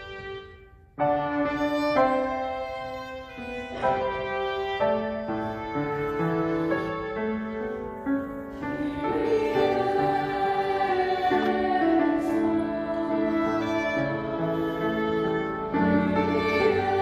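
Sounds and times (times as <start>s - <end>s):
piano chords: 0.0s - 17.0s
violin long bowed notes: 0.0s - 17.0s.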